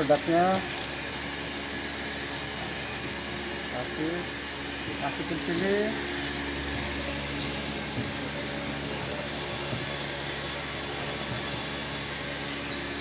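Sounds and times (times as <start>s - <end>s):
blower fan running: 0.0s - 13.0s
low hum: 0.6s - 13.0s.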